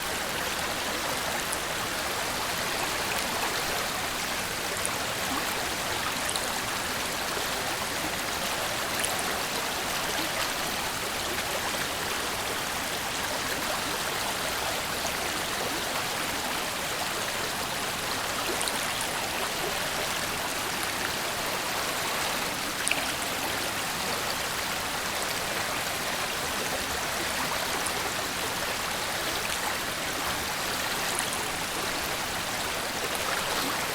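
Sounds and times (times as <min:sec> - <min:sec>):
river flowing: 0:00.0 - 0:33.9.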